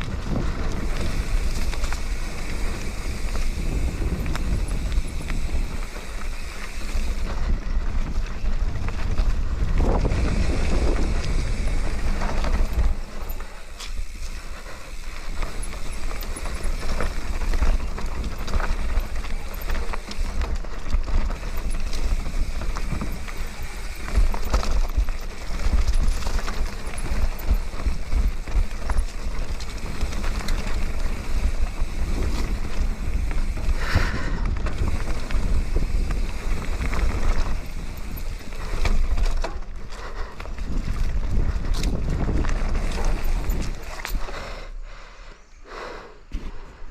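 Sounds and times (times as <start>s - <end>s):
bike knocks and rattles: 0.0s - 44.3s
bike tyre noise on dirt: 0.0s - 46.9s
wind rumbling on microphone: 0.0s - 46.9s.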